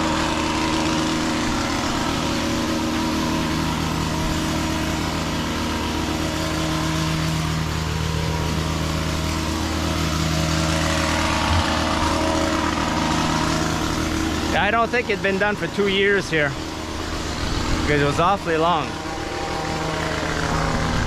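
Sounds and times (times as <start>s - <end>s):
small gas engine running: 0.0s - 21.0s.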